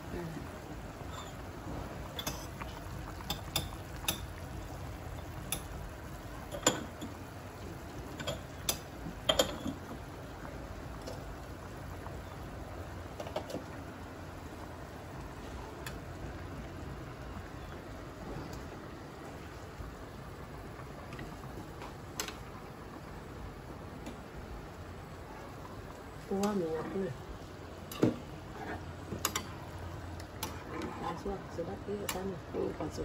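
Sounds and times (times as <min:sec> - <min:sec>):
broth boiling: 0:00.0 - 0:33.0.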